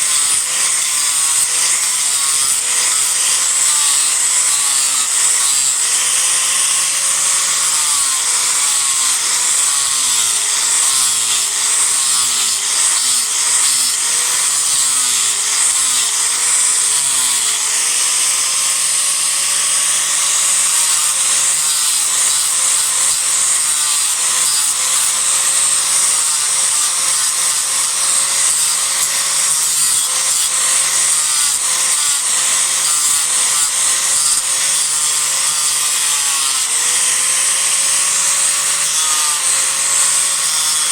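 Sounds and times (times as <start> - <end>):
disc grinder grinding wood: 0.0 - 40.9.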